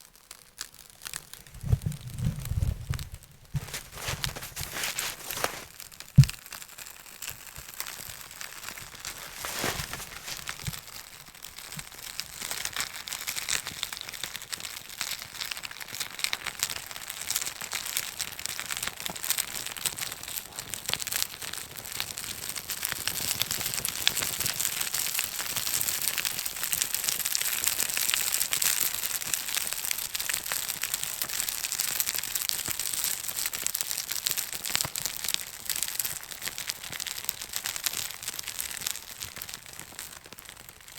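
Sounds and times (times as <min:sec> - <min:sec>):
bark burning and crackling: 0:00.0 - 0:40.9.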